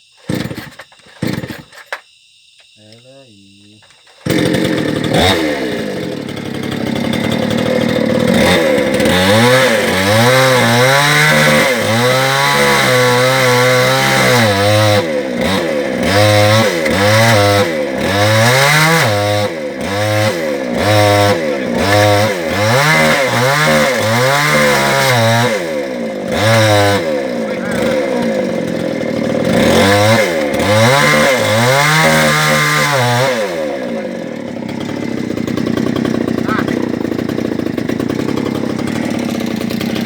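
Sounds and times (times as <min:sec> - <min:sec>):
chainsaw revving cutting wood: 0:00.2 - 0:01.8, 0:04.0 - 0:40.0.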